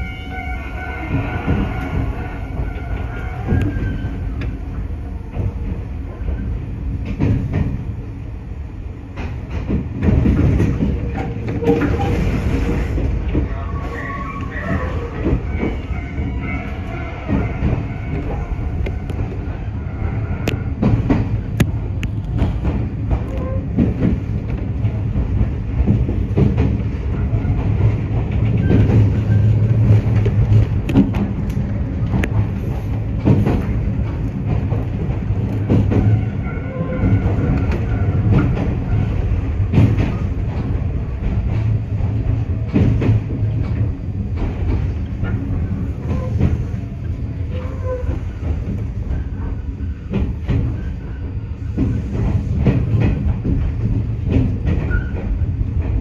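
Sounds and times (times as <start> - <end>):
electric train humming: 0.0 - 56.0
wheels clicking over rail joints: 9.0 - 56.0.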